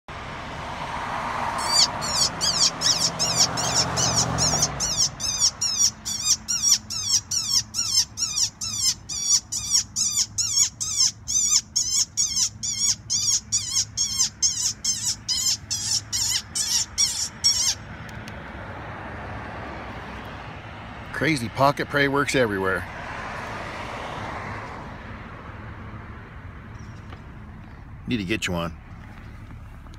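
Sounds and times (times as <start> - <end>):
car passing: 0.1 - 29.9.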